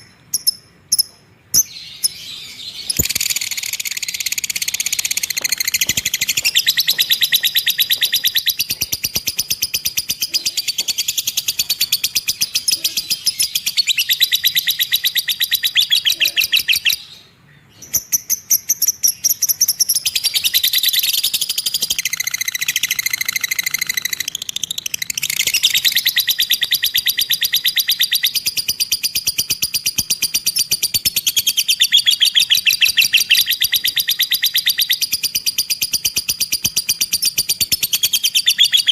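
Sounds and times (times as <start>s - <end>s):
lovebird chattering trill: 0.0s - 17.1s, 17.9s - 38.9s.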